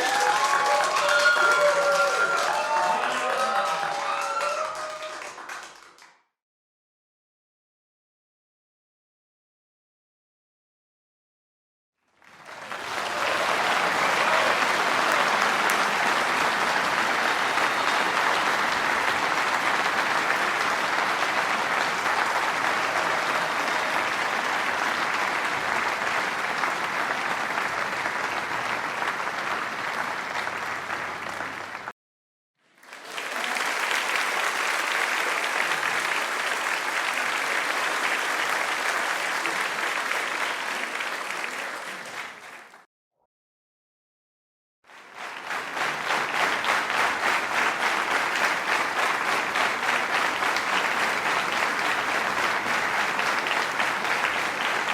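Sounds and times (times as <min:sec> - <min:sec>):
large audience applauding: 0:00.0 - 0:06.2, 0:12.2 - 0:31.9, 0:32.7 - 0:42.9, 0:44.9 - 0:54.9.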